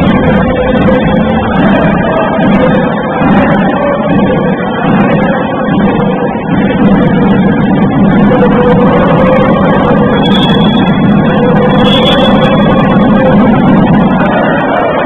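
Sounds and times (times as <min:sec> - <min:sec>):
crowd cheering indoors: 0:00.0 - 0:15.0.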